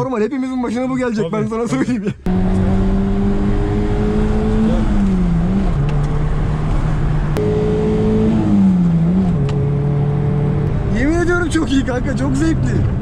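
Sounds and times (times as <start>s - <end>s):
car engine running inside cabin: 2.3s - 13.0s.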